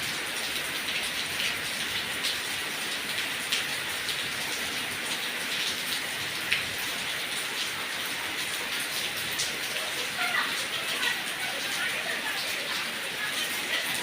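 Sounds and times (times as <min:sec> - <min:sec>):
heavy rain on leaves: 0:00.0 - 0:14.0
raindrops tapping: 0:00.0 - 0:14.0.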